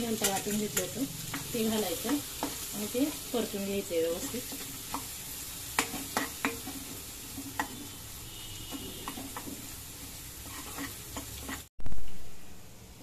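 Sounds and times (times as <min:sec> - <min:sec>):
paste sizzling in hot oil: 0:00.0 - 0:11.7.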